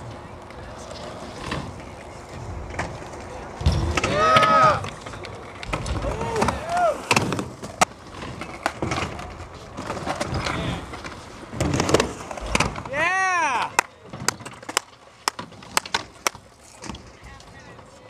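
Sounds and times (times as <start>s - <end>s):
bike tyres rolling on ramps: 0.0s - 18.0s.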